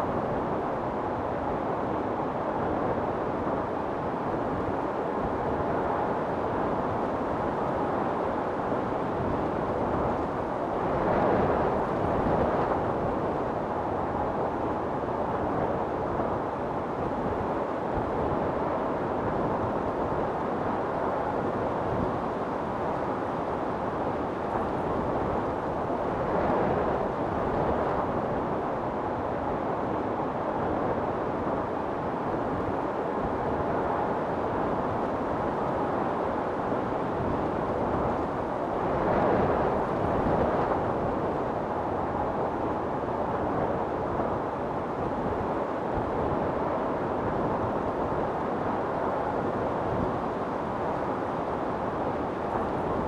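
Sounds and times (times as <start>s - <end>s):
storm wind blowing: 2.4s - 53.0s.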